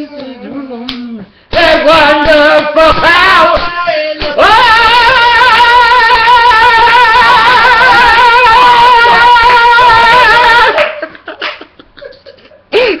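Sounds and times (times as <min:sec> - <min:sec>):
man singing a high held note: 0:00.0 - 0:10.8.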